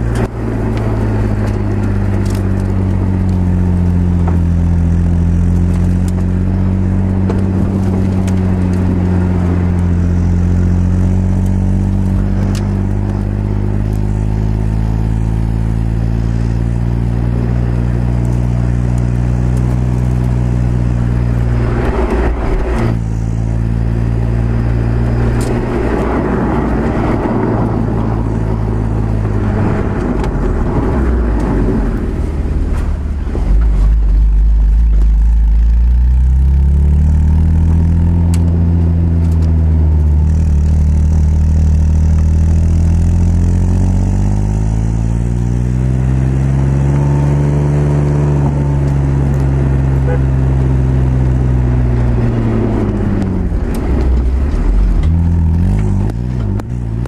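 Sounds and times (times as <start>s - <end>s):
rough rushing noise: 0.0s - 39.2s, 47.2s - 57.0s
car exhaust drone: 0.0s - 57.0s.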